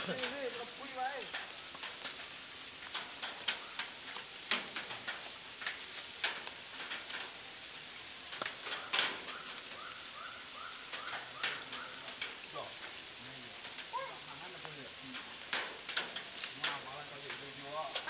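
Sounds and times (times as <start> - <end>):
sharp clicks and crackles: 0.0 - 7.5, 8.3 - 9.9, 10.9 - 18.0
steady high hiss: 0.0 - 18.0.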